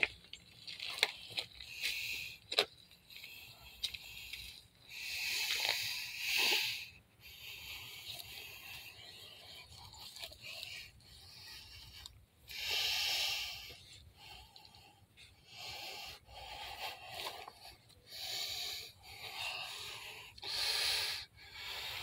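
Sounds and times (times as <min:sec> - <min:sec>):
rough breaths and snorts through mask: 0:00.8 - 0:22.0.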